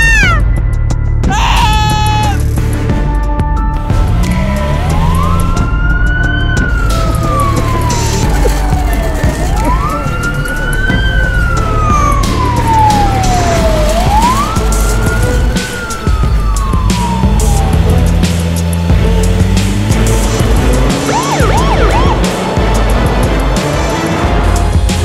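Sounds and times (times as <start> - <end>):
ambulance siren wailing: 3.9 - 24.0.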